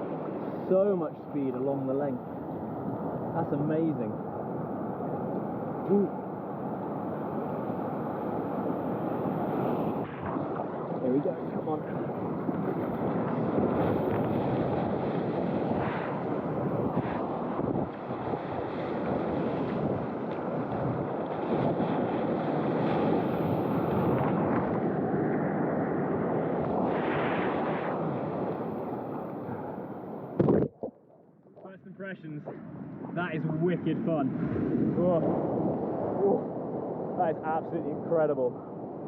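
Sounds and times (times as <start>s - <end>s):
surf rushing: 0.0s - 31.0s, 31.6s - 38.7s
wind buffeting microphone: 0.0s - 39.0s.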